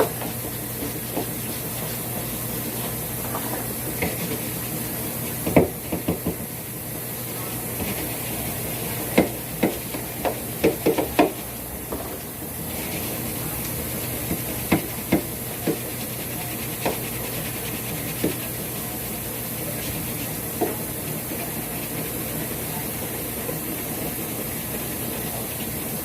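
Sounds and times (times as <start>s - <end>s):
washing machine hiss: 0.0s - 26.0s.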